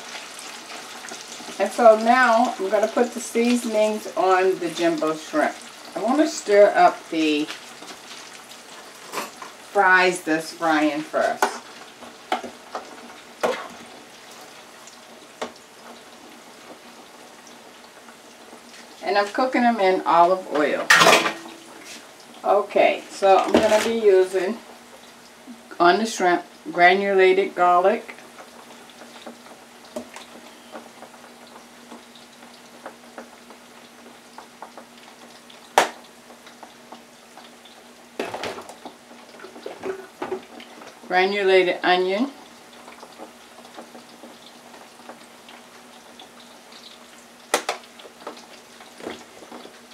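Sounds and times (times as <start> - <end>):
fries sizzling in hot oil: 0.0 - 49.9.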